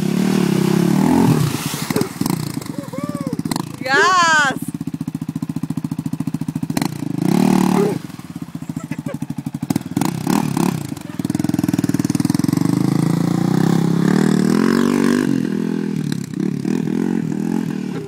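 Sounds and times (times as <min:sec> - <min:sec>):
quad engine revving: 0:00.0 - 0:18.0.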